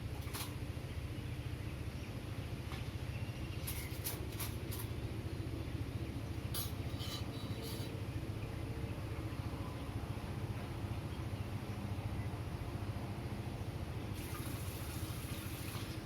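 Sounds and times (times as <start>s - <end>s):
distant city traffic hum: 0.0s - 16.0s.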